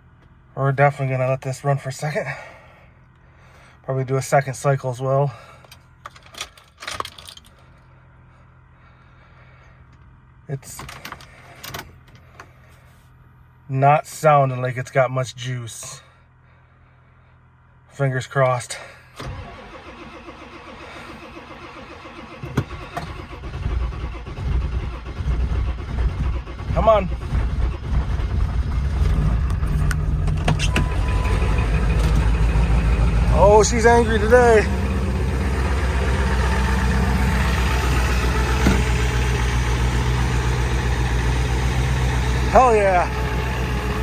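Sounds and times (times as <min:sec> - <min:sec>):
diesel engine cranking: 0:00.0 - 0:13.5, 0:16.3 - 0:44.0.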